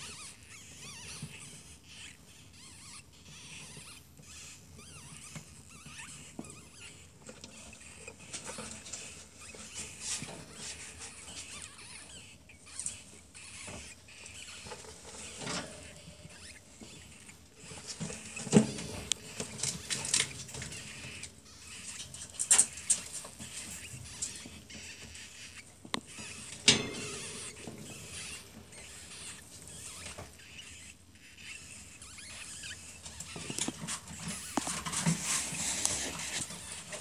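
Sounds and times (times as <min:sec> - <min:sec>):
ferret kits squeaking: 0:00.0 - 0:37.0.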